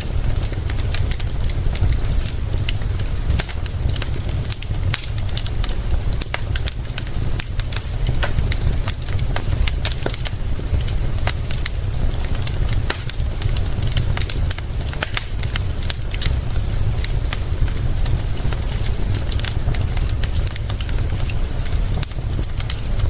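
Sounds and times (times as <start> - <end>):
low rumble and hiss: 0.0 - 23.0
wood fire crackling: 0.0 - 23.0.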